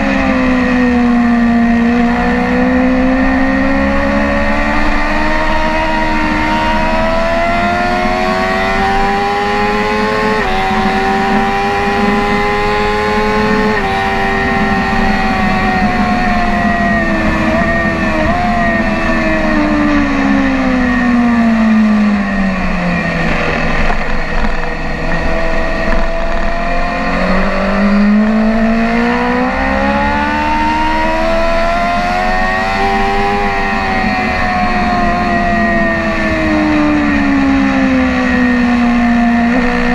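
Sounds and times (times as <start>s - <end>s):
sport bike engine revving: 0.0s - 39.9s.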